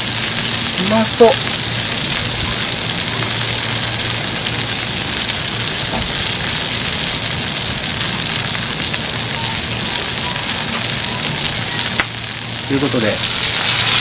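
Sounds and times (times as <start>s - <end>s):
chicken sizzling in frying pan: 0.0s - 14.0s.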